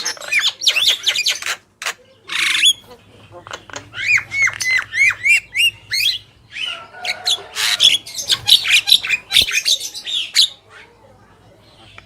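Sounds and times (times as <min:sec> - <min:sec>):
mynas squawking and chattering: 0:00.0 - 0:12.0.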